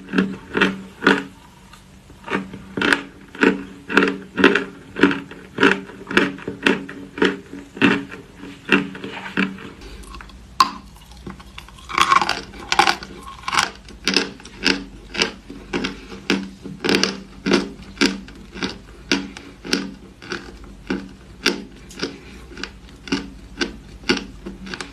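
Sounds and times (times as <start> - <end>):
crisp crunches: 0.0 - 24.9.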